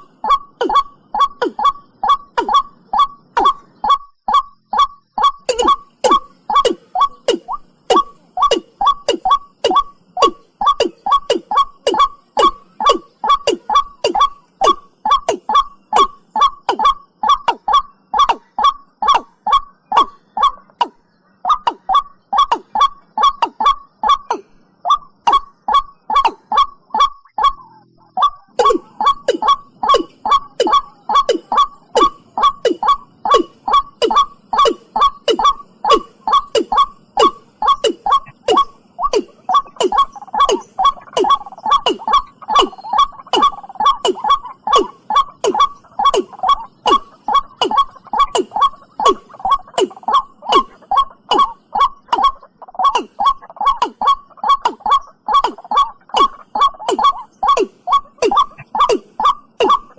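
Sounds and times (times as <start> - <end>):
bird giving short kok calls: 0.0 - 59.9.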